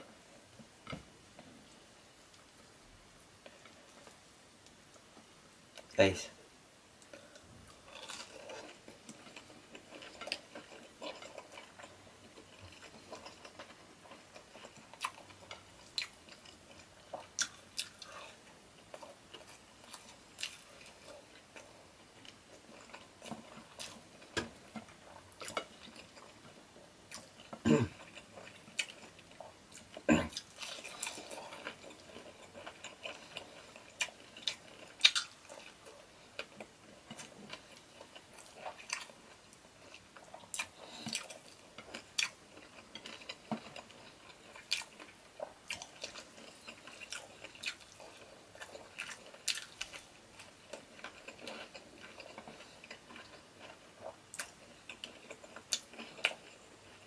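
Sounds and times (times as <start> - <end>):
person chewing with wet smacks: 7.0 - 57.0.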